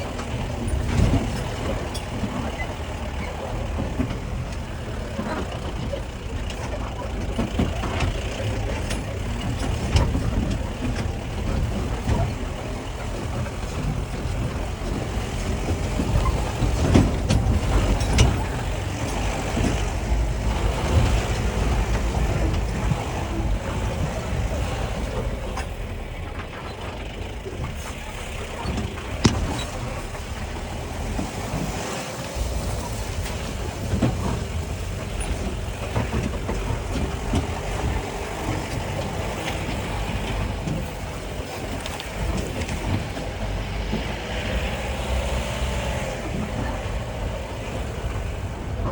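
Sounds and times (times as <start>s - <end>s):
sharp knocks and rattles: 0.0s - 48.9s
vehicle engine and road rumble: 0.0s - 48.9s.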